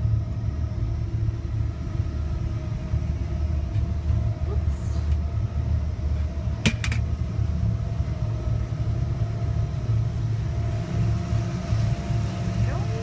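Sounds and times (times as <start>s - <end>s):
faint hum: 0.0s - 13.0s
steady low rumble: 0.0s - 13.0s.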